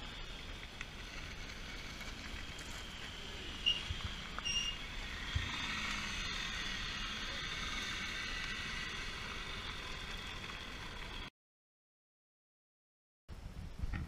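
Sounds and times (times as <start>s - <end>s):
moped engines running: 0.0s - 11.3s.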